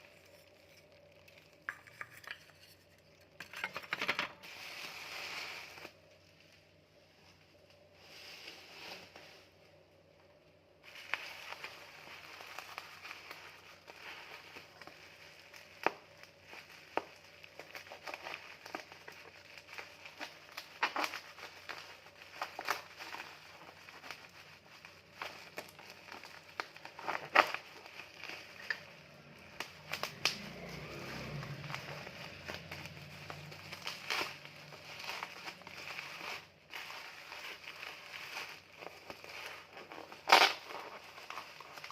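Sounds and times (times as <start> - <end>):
packaging crinkling and rustling: 0.0 - 8.0, 10.4 - 41.9.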